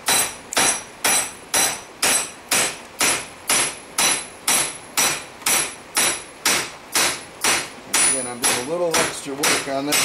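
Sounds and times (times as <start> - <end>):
hammer striking hot steel: 0.0 - 10.0.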